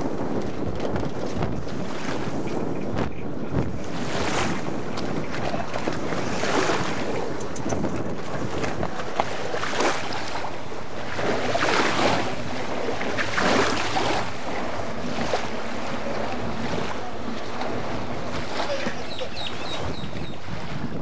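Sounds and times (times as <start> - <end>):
lake water: 0.0 - 21.0
wind buffeting microphone: 0.0 - 21.0.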